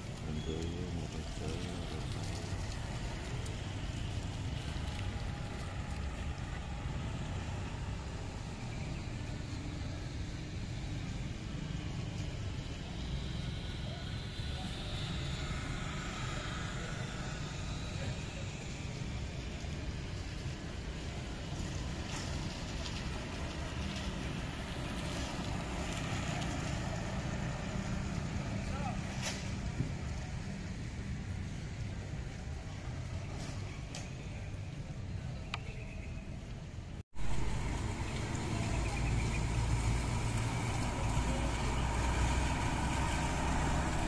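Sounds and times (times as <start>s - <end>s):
vehicle engines rumbling: 0.0s - 44.0s.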